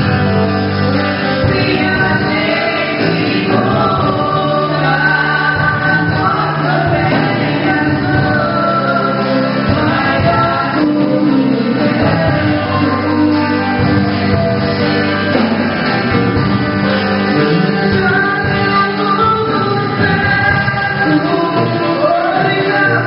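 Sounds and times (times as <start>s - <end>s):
band playing: 0.0s - 23.0s
voices singing: 0.0s - 23.0s.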